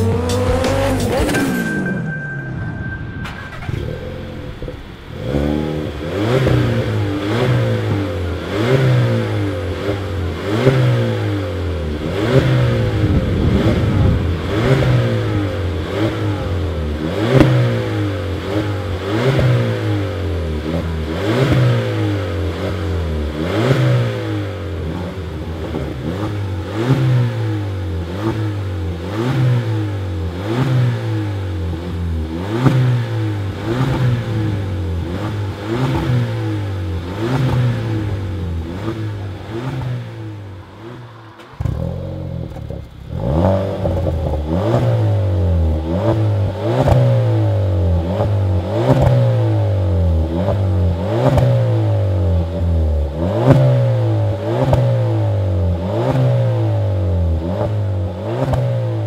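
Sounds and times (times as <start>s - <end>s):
car engine revving: 0.0s - 1.8s, 2.4s - 59.0s.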